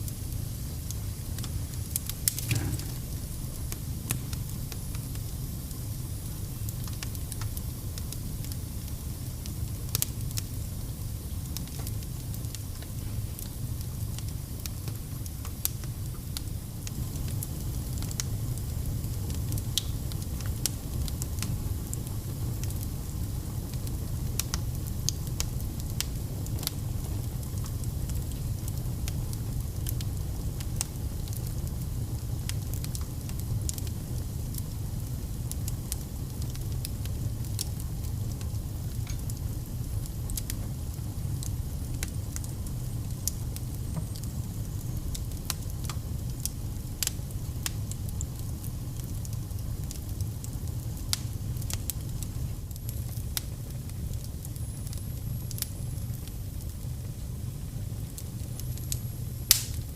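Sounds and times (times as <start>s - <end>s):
fire crackling and popping: 0.0s - 59.9s
fire low rumble: 0.0s - 59.9s.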